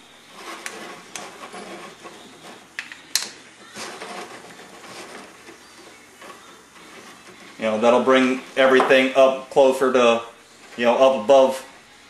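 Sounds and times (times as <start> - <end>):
light scraping: 0.0 - 11.9.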